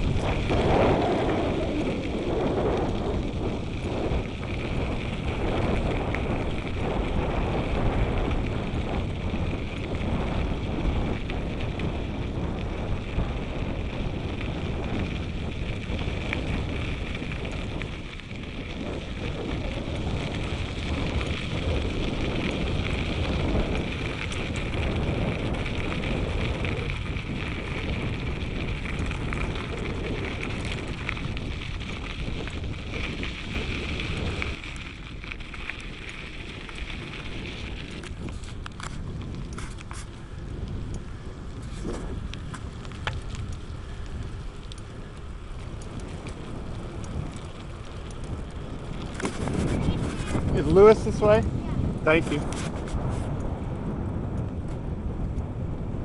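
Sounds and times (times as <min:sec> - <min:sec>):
bicycle tyres crunching on gravel: 0:00.0 - 0:56.0
wind buffeting microphone: 0:00.0 - 0:56.0.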